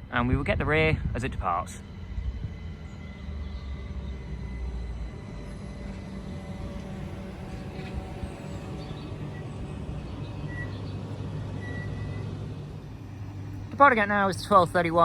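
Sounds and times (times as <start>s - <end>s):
train electric hum: 0.0s - 15.0s.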